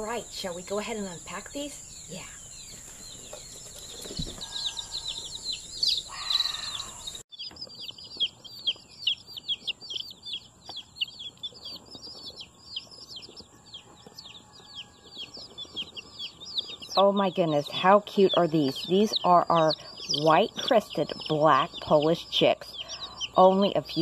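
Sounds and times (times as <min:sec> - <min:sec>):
chicks peeping: 0:00.3 - 0:24.0.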